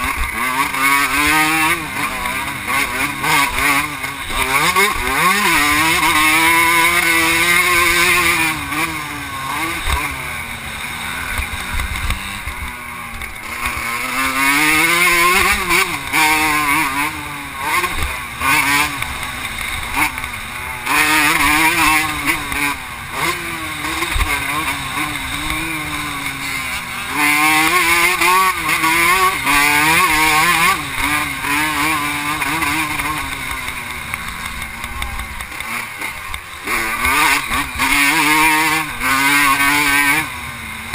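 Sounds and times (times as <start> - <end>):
two-stroke motorbike engine revving: 0.0 - 40.9.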